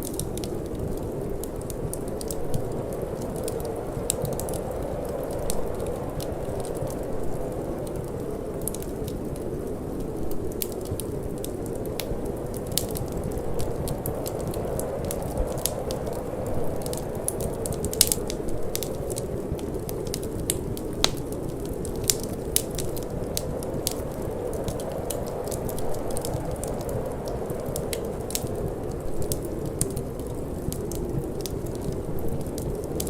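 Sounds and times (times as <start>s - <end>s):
cold wind rushing: 0.0s - 33.0s
wood fire crackling: 0.0s - 33.0s.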